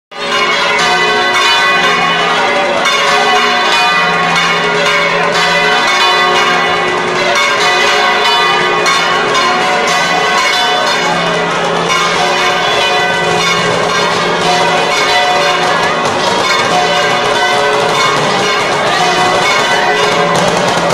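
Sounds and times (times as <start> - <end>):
church bells pealing: 0.1 - 20.9.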